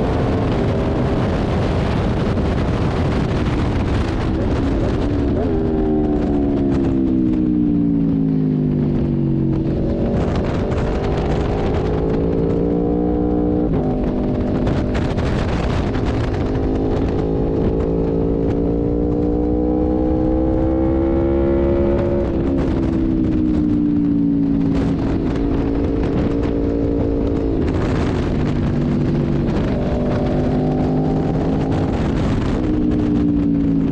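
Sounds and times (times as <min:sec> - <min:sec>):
motorcycle engine revving: 0:00.0 - 0:33.9
wind rush: 0:00.0 - 0:33.9.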